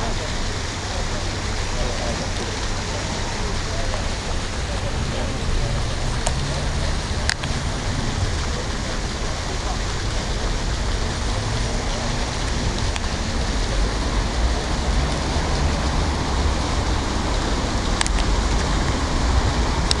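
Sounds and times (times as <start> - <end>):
low rumble: 0.0 - 20.0
steady hiss: 0.0 - 20.0.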